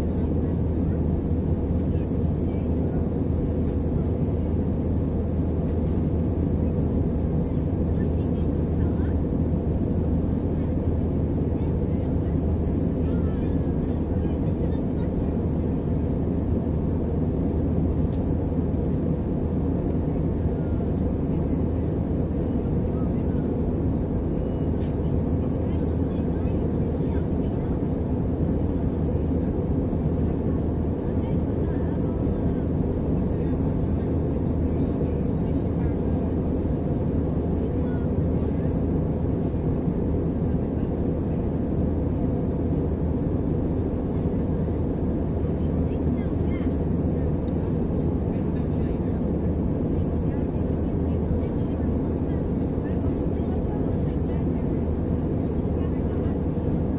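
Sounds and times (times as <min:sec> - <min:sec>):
jet engines droning: 0:00.0 - 0:56.9.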